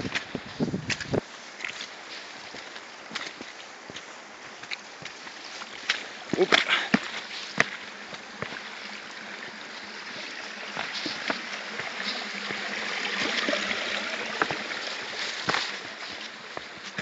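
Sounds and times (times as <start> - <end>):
footsteps on stones: 0.0 - 17.0
stream trickling over rocks: 0.0 - 17.0.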